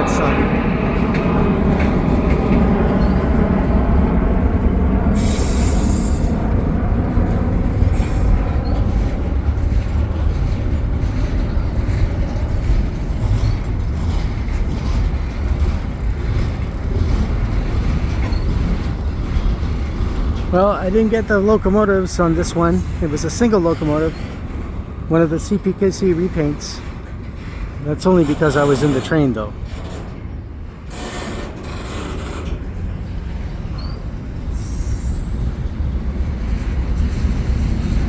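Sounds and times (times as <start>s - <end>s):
railcar wheels rumbling on rail: 0.0s - 38.0s.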